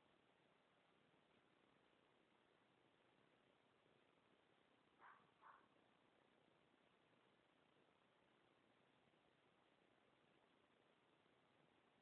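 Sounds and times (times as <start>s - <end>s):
faint recording hiss: 0.0s - 12.0s.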